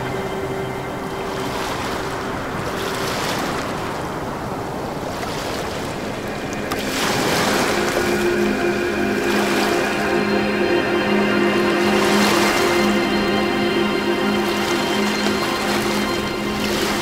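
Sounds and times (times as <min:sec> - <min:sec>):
ambient music: 0:00.0 - 0:17.0
ocean surf: 0:00.0 - 0:17.0.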